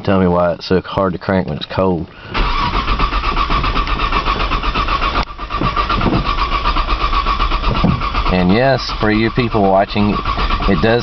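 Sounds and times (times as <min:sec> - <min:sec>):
car engine cranking: 0:01.5 - 0:11.0.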